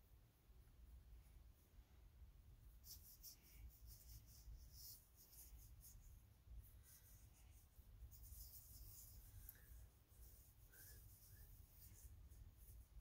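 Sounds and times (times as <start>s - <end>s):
paintbrush strokes on paper: 2.6s - 13.0s.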